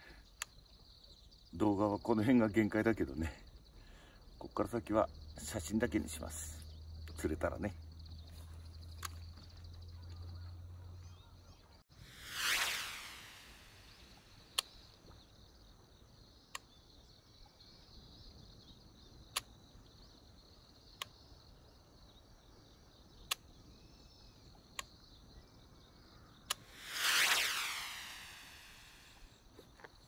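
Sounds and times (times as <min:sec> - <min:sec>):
insects chirping: 0:00.0 - 0:11.3, 0:12.0 - 0:30.0.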